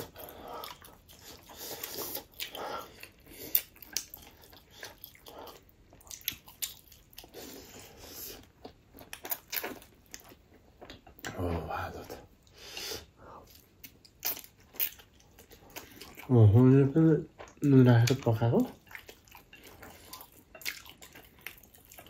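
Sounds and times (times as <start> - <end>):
person chewing crunchy food: 0.0 - 16.4, 17.3 - 22.0.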